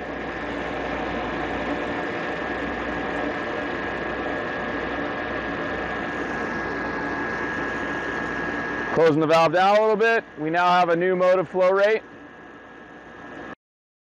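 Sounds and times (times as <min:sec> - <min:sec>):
pump whine: 0:00.0 - 0:13.6.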